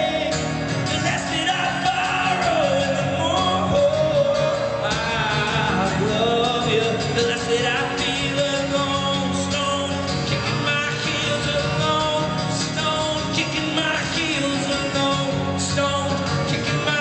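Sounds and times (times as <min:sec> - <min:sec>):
man singing: 0:00.0 - 0:17.0
strummed acoustic guitar: 0:00.0 - 0:17.0.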